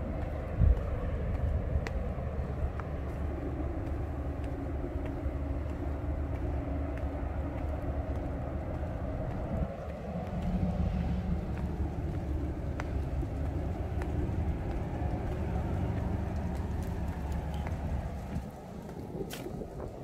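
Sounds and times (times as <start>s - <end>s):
distant road traffic rumble: 0.0s - 20.0s
faint hum: 0.0s - 20.0s
faint ticks: 0.1s - 19.9s.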